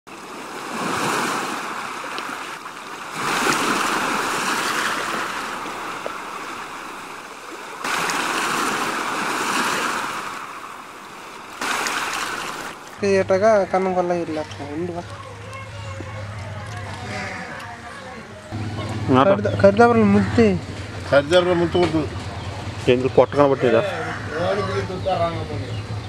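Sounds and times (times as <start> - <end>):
sea waves washing: 0.1 - 21.7.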